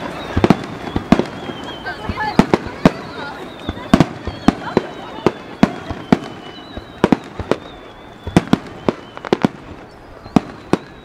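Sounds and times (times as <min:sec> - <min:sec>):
faint high whistle: 0:00.0 - 0:11.0.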